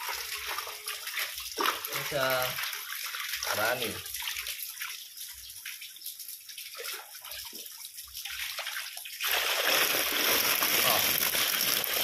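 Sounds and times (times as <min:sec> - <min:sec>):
fish splashing in water: 0:00.0 - 0:12.0.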